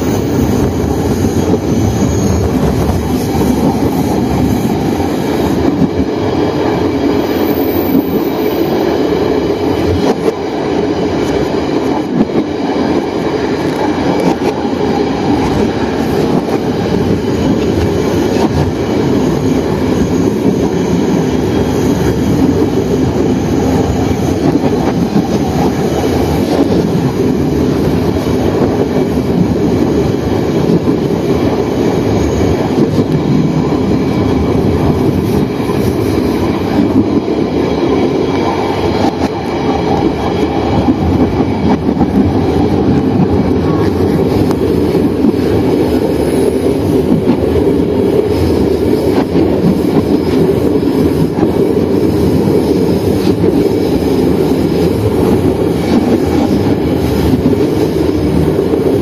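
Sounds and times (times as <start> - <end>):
train running on rails: 0.0 - 59.0.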